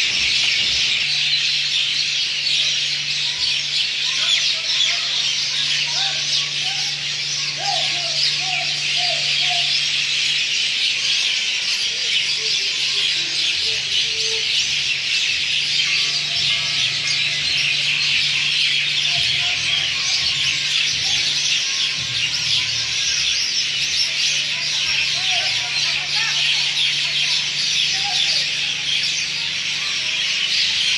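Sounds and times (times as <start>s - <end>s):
flock of birds chirping: 0.0s - 30.9s
lower bird calls: 0.0s - 30.9s.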